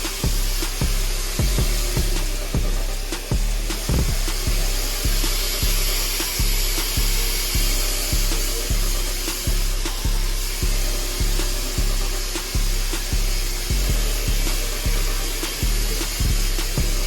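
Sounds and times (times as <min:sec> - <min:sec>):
electric hair clippers buzzing: 0:00.0 - 0:17.0
instrumental beat with heavy bass: 0:00.0 - 0:17.0.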